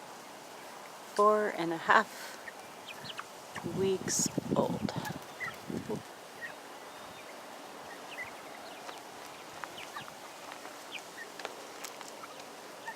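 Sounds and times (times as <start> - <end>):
faint background hiss: 0.0 - 12.9
chicks peeping: 2.3 - 12.9.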